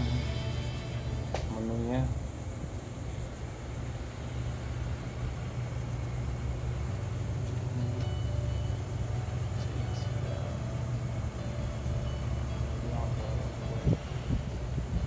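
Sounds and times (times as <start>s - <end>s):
low rumble of street noise: 0.0s - 15.0s.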